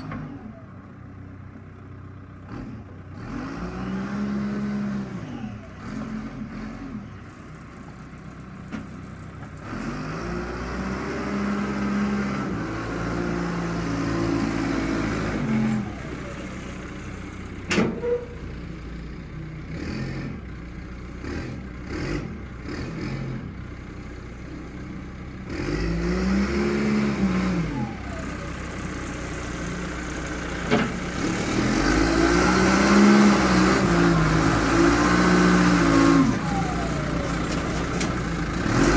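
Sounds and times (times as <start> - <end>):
backhoe engine revving: 0.0 - 38.9.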